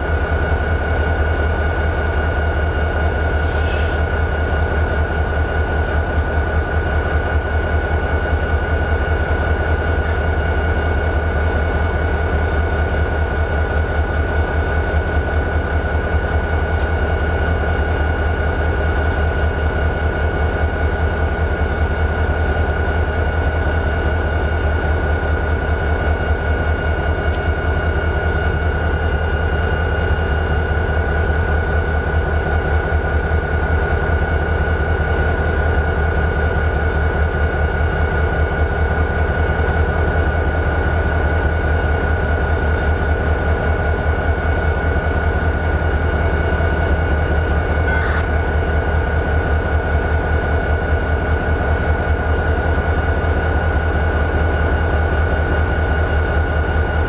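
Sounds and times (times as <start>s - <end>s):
diesel locomotive idling: 0.0s - 57.0s
high-pitched whine: 0.0s - 57.0s.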